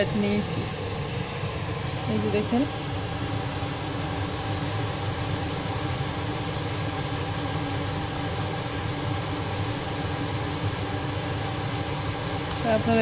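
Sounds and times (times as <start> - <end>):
fan whooshing hiss: 0.0 - 13.0.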